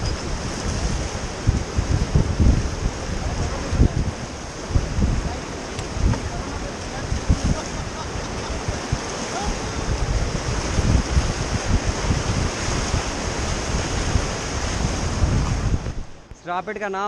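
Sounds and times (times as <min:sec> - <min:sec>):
wind gusting on microphone: 0:00.0 - 0:16.5
rushing whitewater: 0:00.0 - 0:17.0.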